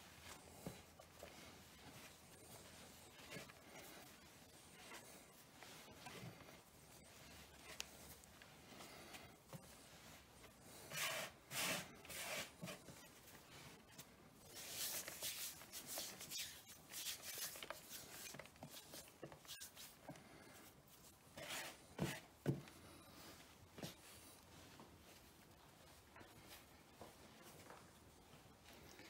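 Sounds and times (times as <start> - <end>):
hands kneading dough: 0.0 - 29.0.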